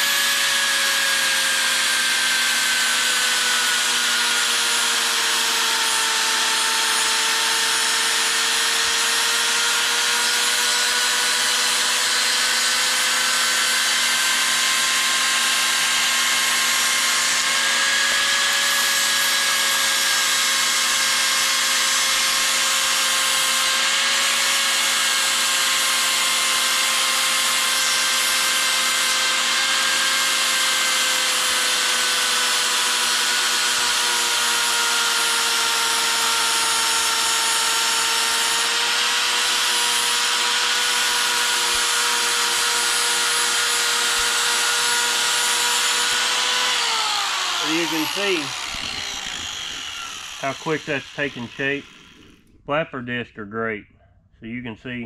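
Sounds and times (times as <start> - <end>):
angle grinder grinding metal: 0.0 - 52.6.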